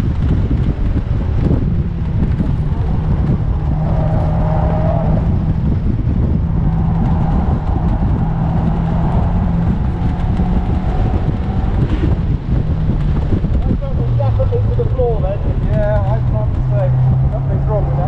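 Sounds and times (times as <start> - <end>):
car engine at high revs: 0.0 - 18.0
wind rush: 0.0 - 18.0.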